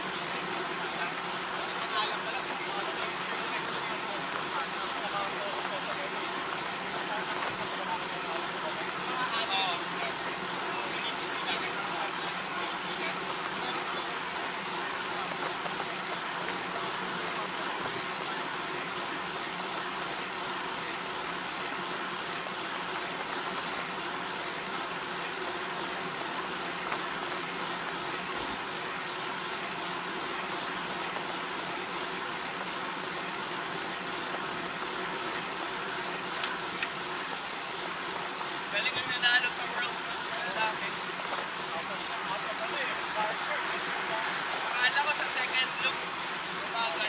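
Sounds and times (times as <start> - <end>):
road and wind noise: 0.0 - 47.0.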